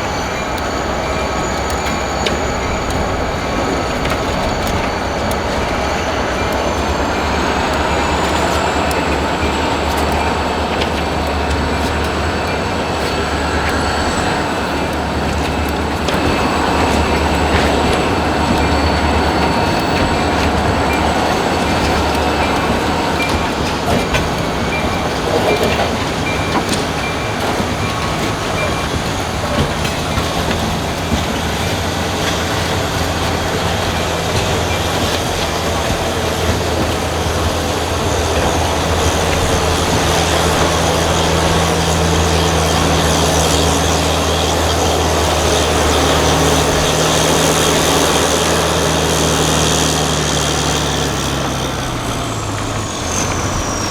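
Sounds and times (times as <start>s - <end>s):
locomotive engine drone: 0.0s - 53.9s
train wheels rumbling and clattering: 0.0s - 53.9s.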